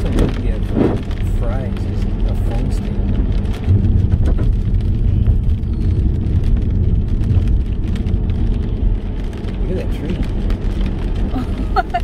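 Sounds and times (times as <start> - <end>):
engine and tyres on wet road: 0.0 - 12.0
rain ticking on car: 0.0 - 12.0.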